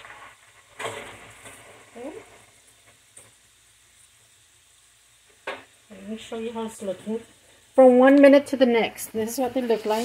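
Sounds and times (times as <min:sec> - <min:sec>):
potatoes sizzling in oil: 0:00.0 - 0:10.0.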